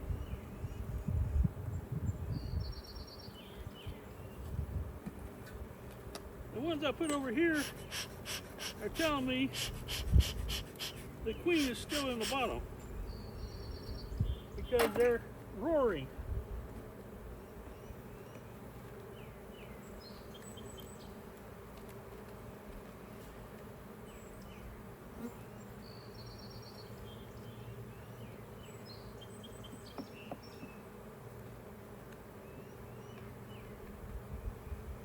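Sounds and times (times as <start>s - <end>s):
honeybees humming loudly: 0.0s - 35.0s.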